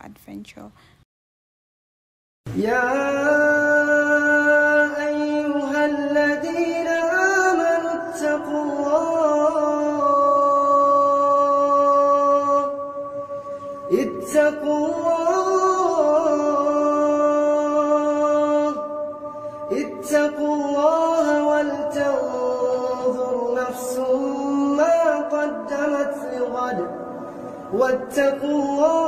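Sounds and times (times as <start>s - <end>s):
person chanting melodically: 2.5s - 29.0s.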